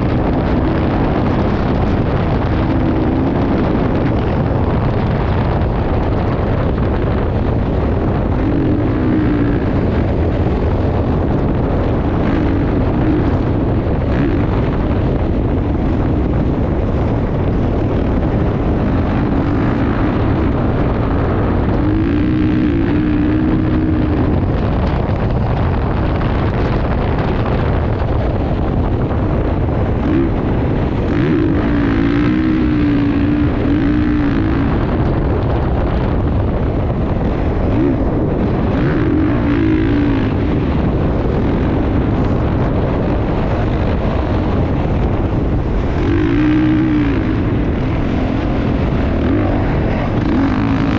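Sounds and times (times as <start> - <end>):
motorcycle engine running: 0.0 - 50.9
wind noise on microphone: 0.0 - 50.9.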